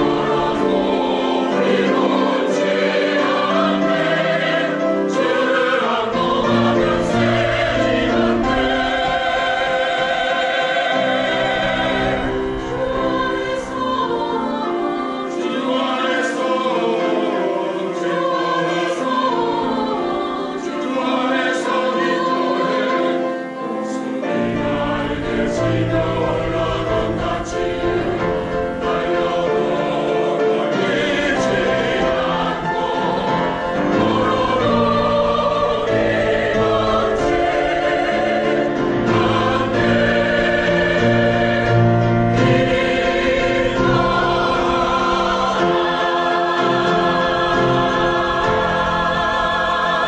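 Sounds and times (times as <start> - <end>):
church choir singing: 0.0 - 50.0.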